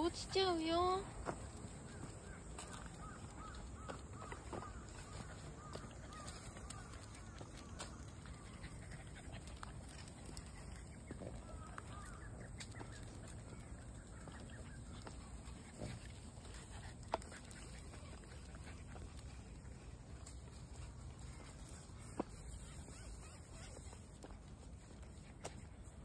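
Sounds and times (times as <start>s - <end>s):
faint bird calls: 1.4s - 24.4s.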